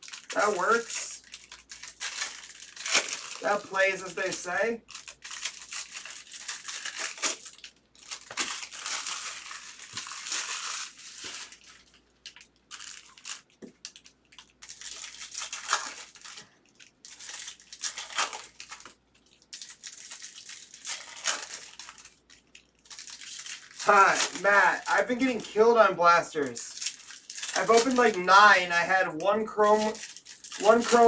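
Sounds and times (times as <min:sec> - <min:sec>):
plastic packaging crinkling and tearing: 0:00.0 - 0:31.0.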